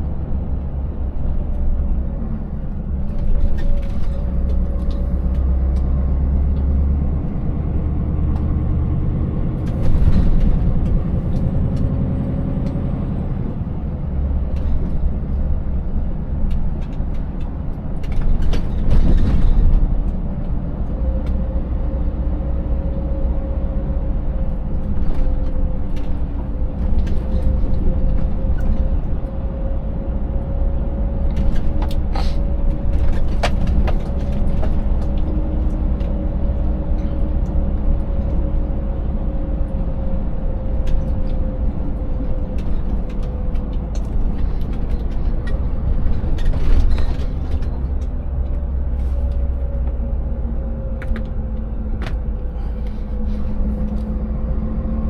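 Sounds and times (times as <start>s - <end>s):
road noise: 0.0s - 55.0s
truck engine droning: 0.0s - 55.0s.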